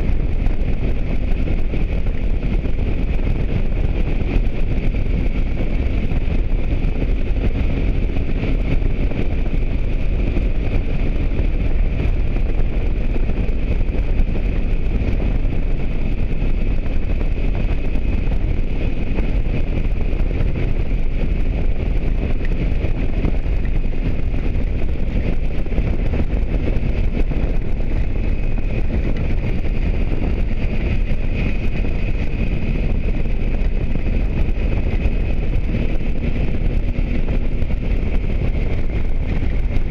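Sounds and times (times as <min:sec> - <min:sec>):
motorcycle engine running: 0:00.0 - 0:39.9
road noise: 0:00.0 - 0:39.9
wind buffeting microphone: 0:00.0 - 0:39.9.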